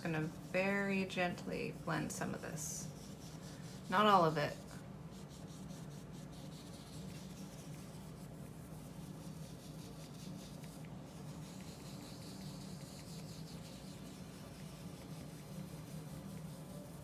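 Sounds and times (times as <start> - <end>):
brush scratching on paper: 0.0 - 17.0.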